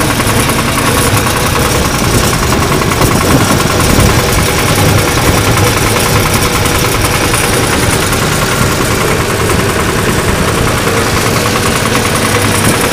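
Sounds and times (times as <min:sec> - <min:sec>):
diesel tractor engine running: 0:00.0 - 0:12.9.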